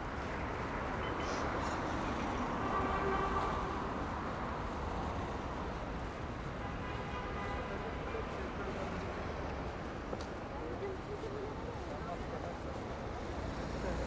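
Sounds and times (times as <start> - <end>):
passing traffic: 0.0 - 14.0.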